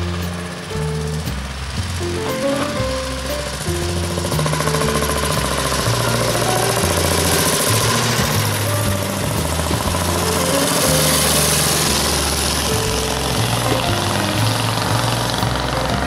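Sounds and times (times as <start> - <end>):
music with stepping bass line: 0.0 - 16.0.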